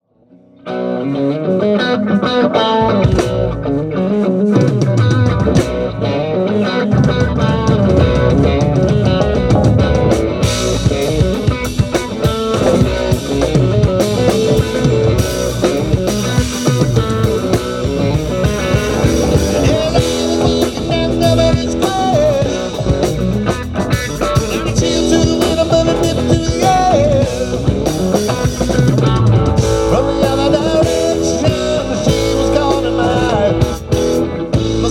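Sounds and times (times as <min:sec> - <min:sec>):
electric guitar: 0:00.0 - 0:34.9
bass guitar: 0:00.3 - 0:34.9
drum kit: 0:02.8 - 0:34.9.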